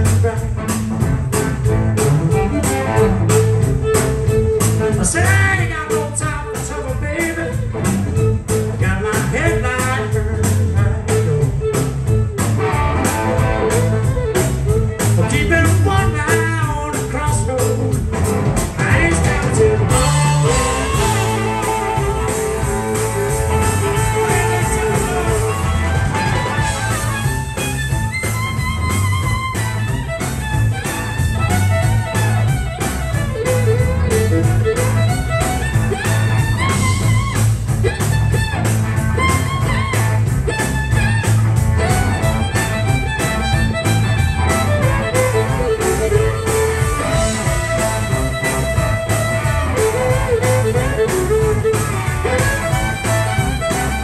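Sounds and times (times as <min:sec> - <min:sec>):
fiddle playing lead: 0:00.0 - 0:54.0
live blues band playing: 0:00.0 - 0:54.0.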